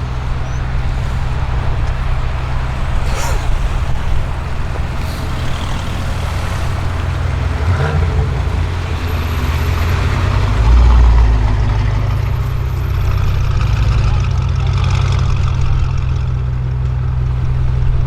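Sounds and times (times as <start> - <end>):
car engine deep drone: 0.0 - 18.0.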